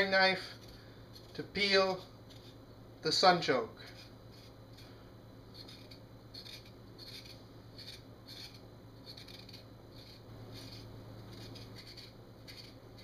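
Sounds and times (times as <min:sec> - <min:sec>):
knife scraping vegetable skin: 0:00.0 - 0:02.6, 0:03.8 - 0:13.0.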